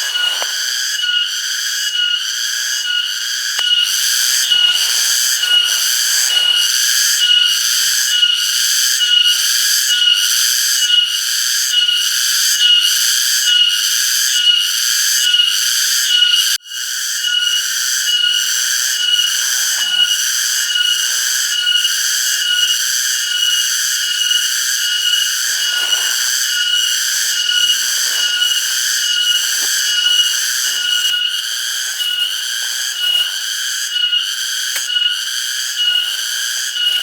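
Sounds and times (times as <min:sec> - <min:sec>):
cicadas pulsing chorus: 0:00.0 - 0:37.0.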